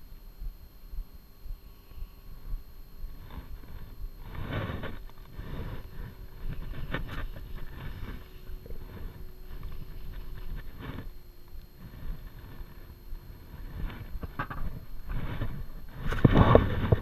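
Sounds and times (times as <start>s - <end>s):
sleeve rustling on microphone: 3.1s - 17.0s.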